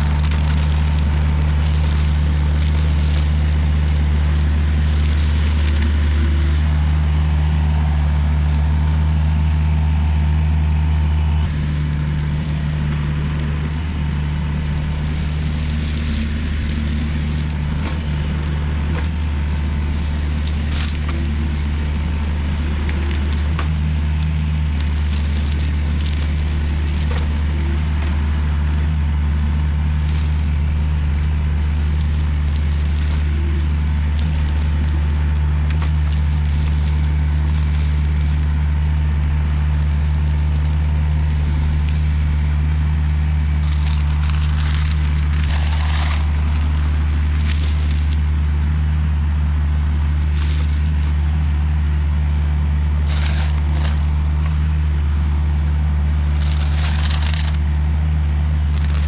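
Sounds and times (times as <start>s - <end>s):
crackles of grass being cut: 0.0s - 59.0s
diesel engine running: 0.0s - 59.0s
thin steady whine: 0.0s - 59.0s.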